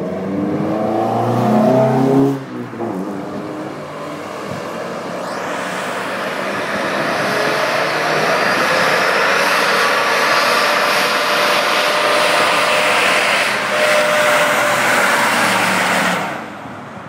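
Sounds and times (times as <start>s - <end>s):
car engine running loud: 0.0s - 17.0s
heavy rushing noise: 0.4s - 17.0s.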